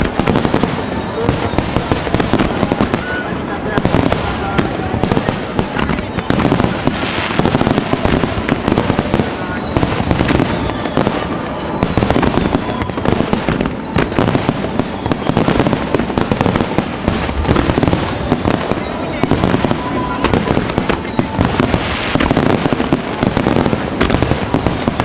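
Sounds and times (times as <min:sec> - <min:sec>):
fireworks bursting and crackling: 0:00.0 - 0:25.0.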